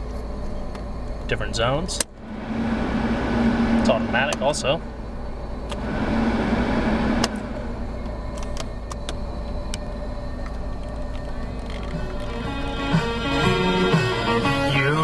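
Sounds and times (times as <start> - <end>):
idling car cabin hum: 0.0 - 15.0.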